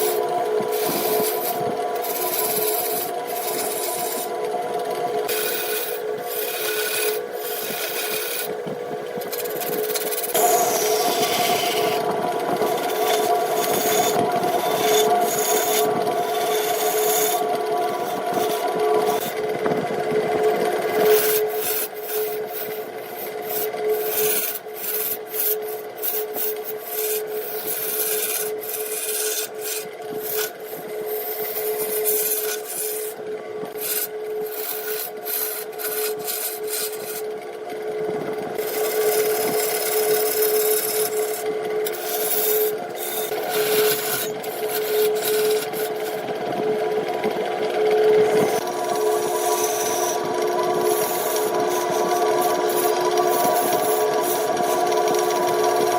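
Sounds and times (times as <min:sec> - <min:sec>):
tool scraping spinning wood: 0:00.0 - 0:55.9
wood lathe humming: 0:00.0 - 0:55.9.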